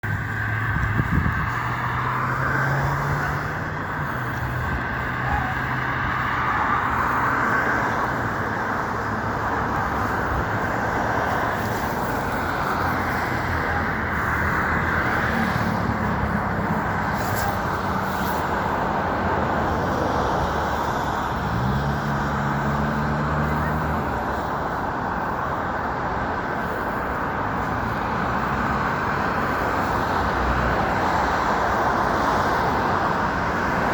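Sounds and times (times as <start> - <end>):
cars passing: 0.0 - 33.9.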